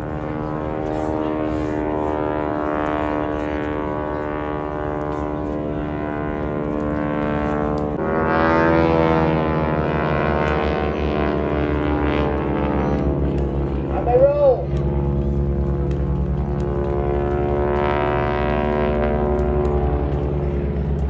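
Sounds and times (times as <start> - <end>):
propeller planes droning overhead: 0.0 - 21.0.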